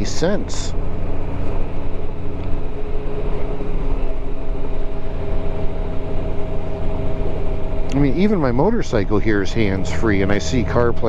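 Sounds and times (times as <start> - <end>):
motorcycle engine and road hum: 0.0 - 11.0
steady tones: 0.0 - 11.0.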